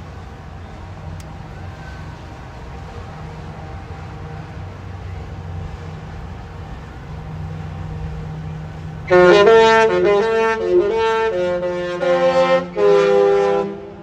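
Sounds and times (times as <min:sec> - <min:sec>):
ship horn playing a melody: 0:01.5 - 0:14.0.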